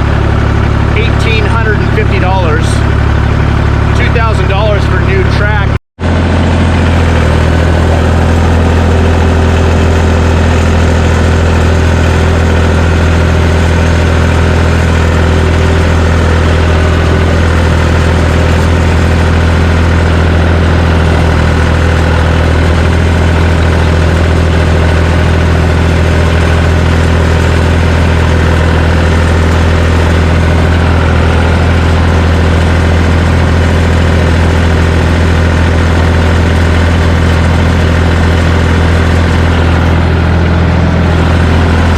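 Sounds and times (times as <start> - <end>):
bulldozer engine running: 0.0 - 41.9.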